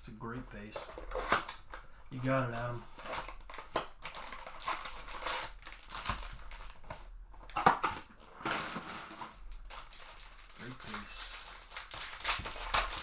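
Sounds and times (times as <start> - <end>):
card pack wrapper crinkling: 0.7 - 13.0.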